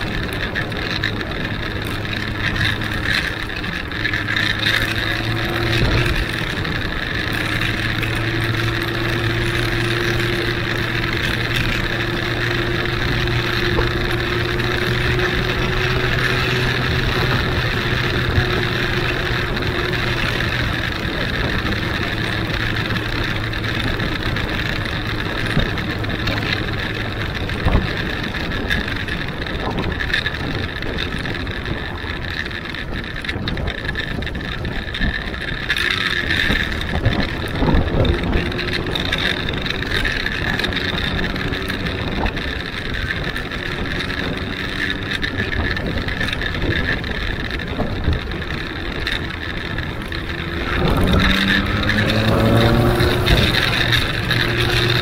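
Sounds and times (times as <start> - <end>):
motorcycle engine running: 0.0 - 55.0
wind over microphone: 0.0 - 55.0.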